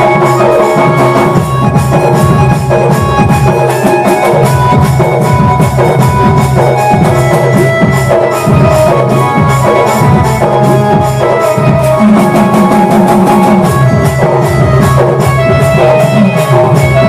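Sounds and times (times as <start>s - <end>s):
steady drumbeat: 0.0s - 17.0s
sustained melody: 0.0s - 17.0s.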